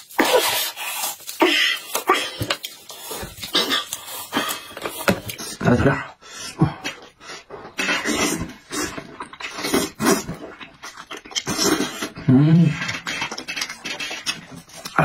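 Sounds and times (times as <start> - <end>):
breaths puffed through lips: 0.0 - 15.0
man slurping: 0.0 - 15.0.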